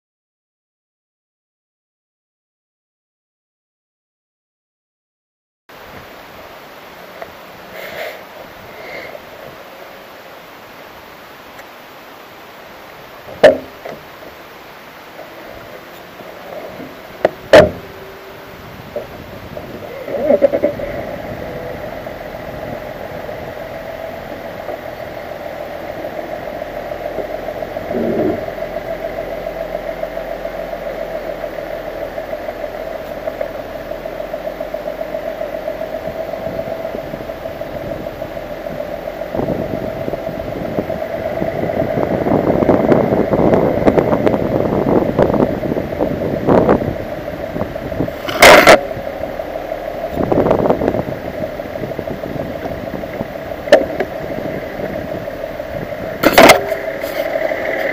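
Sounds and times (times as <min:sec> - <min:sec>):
steady hum: 0:05.7 - 0:57.9.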